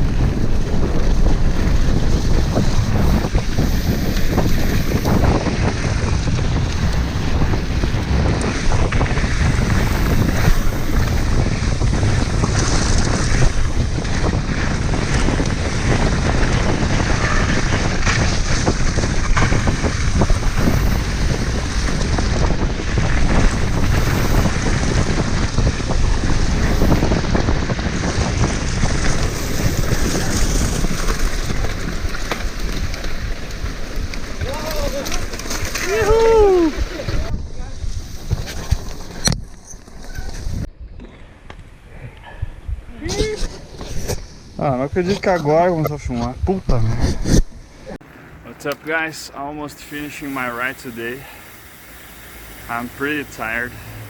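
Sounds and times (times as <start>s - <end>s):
bike knocking and rattling: 0.0s - 41.7s, 48.0s - 54.0s
wind rushing over microphone: 0.0s - 54.0s.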